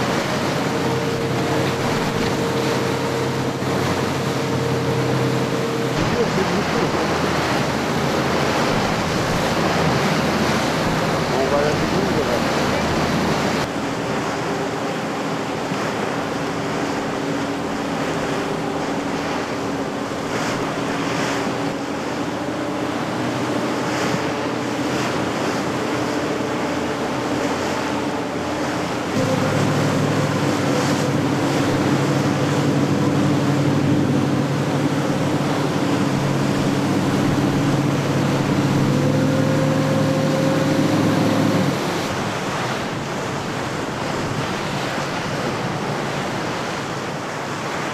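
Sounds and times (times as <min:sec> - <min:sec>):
boat engine drone: 0:00.0 - 0:47.9
choppy sea and spray rushing: 0:00.0 - 0:47.9.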